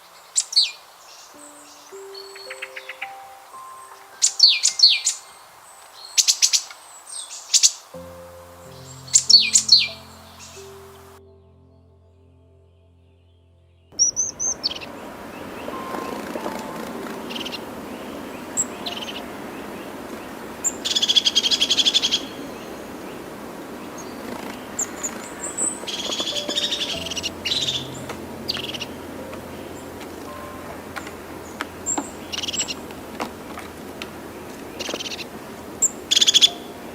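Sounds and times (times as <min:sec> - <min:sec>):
steady background hiss: 0:00.0 - 0:11.4, 0:14.0 - 0:36.9
birds chirping: 0:00.0 - 0:36.9.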